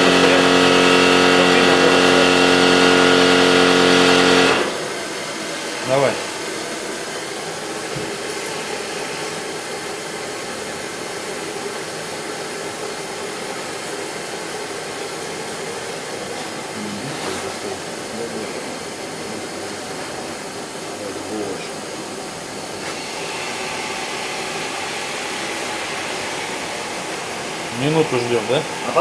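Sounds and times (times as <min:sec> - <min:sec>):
gas burner torch hissing: 0:00.0 - 0:29.0.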